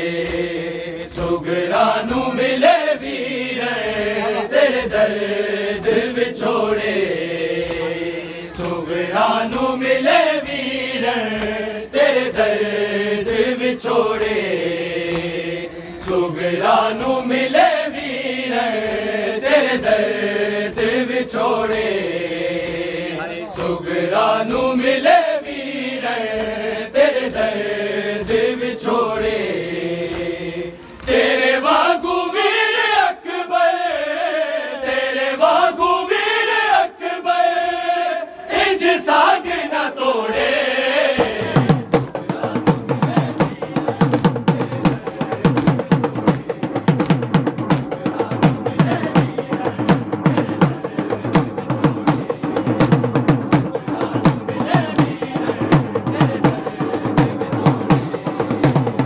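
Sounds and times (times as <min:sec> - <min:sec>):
men chanting a lament: 0:00.0 - 0:59.0
rhythmic chest-beating slaps: 0:00.0 - 0:59.0.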